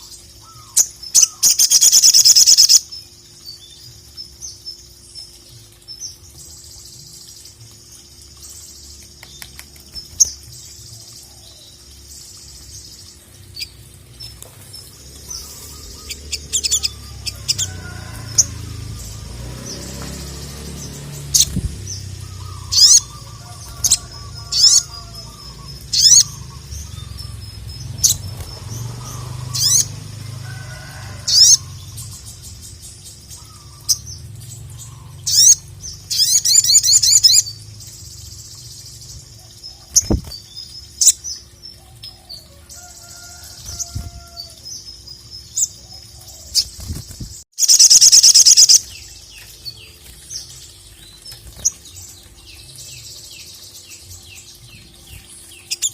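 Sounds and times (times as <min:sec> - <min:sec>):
bird chirping and trilling: 0:00.0 - 0:55.9.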